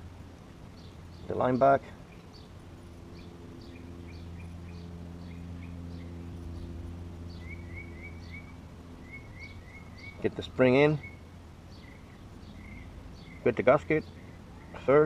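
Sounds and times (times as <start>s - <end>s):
birds chirping: 0.0s - 15.0s
distant motor hum: 0.0s - 15.0s.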